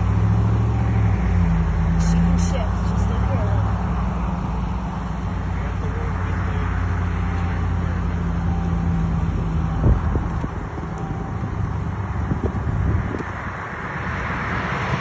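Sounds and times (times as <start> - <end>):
vehicle engine idling: 0.0 - 15.0
wind and road noise: 0.0 - 15.0.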